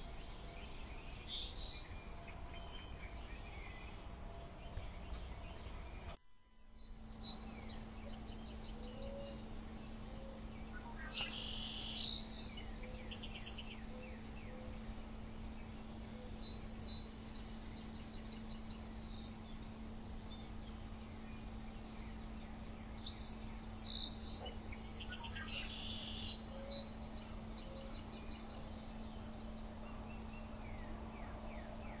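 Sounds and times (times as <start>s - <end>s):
small birds chirping: 0.0s - 6.2s, 6.8s - 32.0s
steady low hum: 0.0s - 32.0s.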